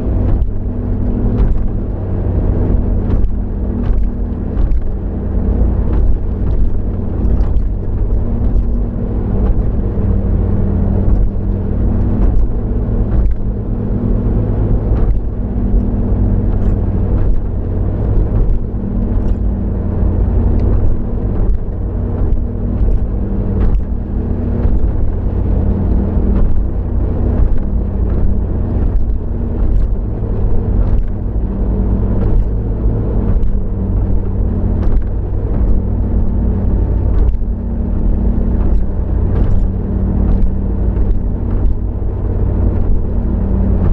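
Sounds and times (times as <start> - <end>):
car engine and road drone: 0.0 - 43.9.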